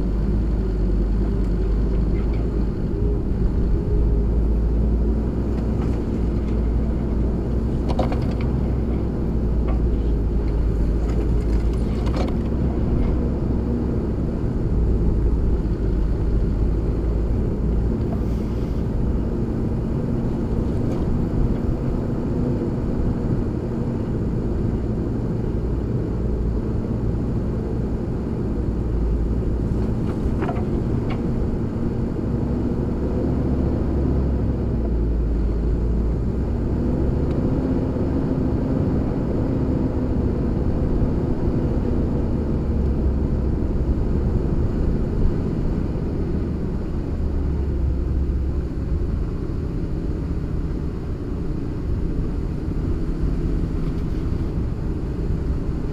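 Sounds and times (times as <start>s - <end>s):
diesel engine rumbling: 0.0s - 55.9s.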